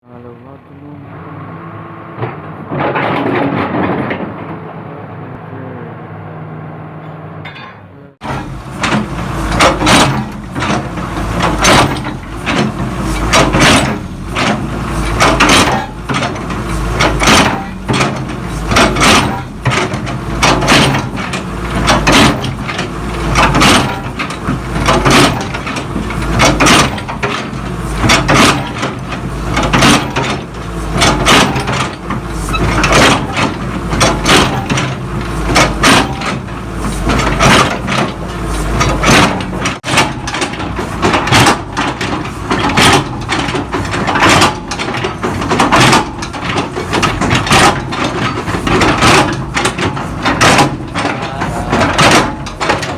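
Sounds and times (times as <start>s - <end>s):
diesel engine droning: 0.0s - 52.9s.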